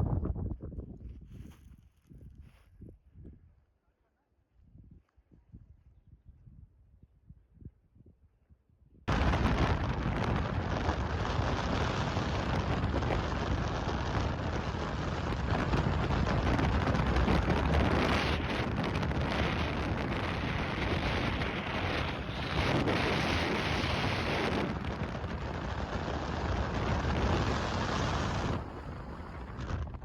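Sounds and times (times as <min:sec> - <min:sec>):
wind buffeting microphone: 0:00.0 - 0:03.6, 0:09.1 - 0:30.0.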